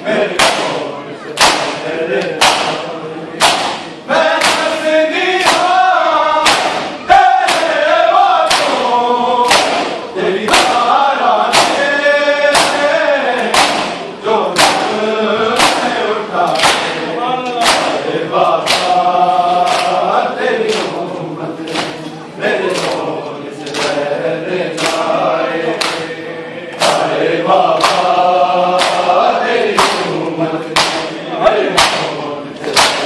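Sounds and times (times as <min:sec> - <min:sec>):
crowd of men chanting: 0:00.0 - 0:33.0
rhythmic chest-beating: 0:00.0 - 0:33.0.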